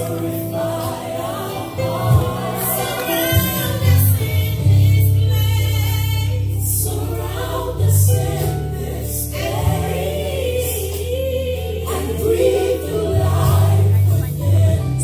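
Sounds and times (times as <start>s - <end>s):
choir singing gospel: 0.0s - 15.0s
deep steady bass line: 0.0s - 15.0s.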